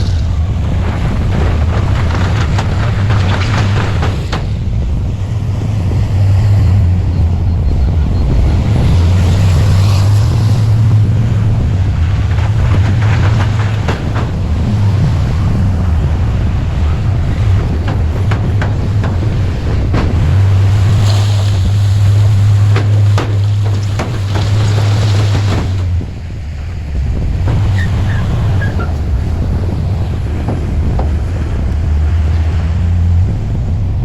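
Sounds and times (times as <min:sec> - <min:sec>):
knocks and clanks: 0:00.0 - 0:33.3
diesel engine droning: 0:00.0 - 0:34.0.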